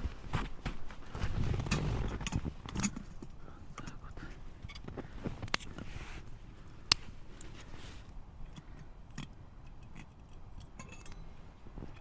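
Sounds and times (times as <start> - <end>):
campfire wood crackling: 0.0 - 12.0.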